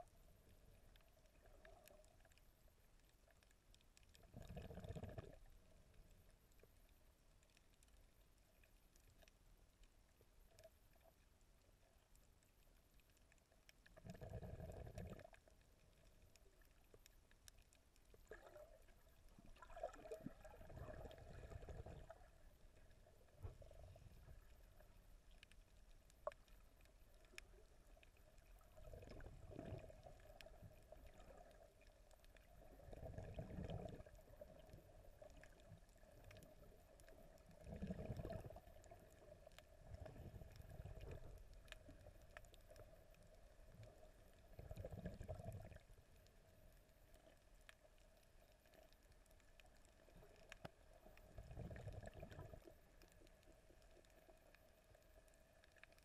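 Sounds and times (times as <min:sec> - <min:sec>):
muffled underwater water movement: 0:00.0 - 0:56.0.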